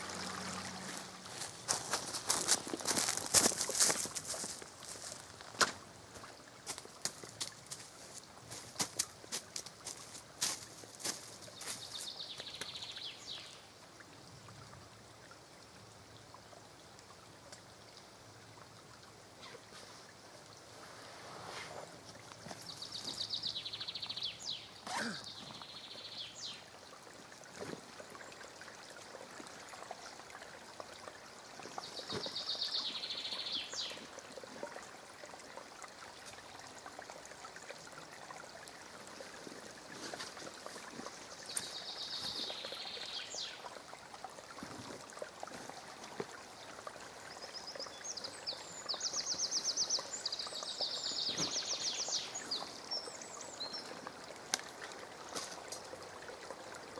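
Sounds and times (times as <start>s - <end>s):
stream trickling: 0.0s - 56.9s.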